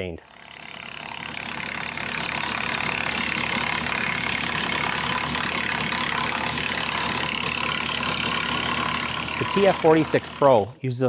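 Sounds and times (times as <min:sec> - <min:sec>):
tractor engine: 0:00.0 - 0:10.8
wood chipper whirring: 0:00.0 - 0:10.8.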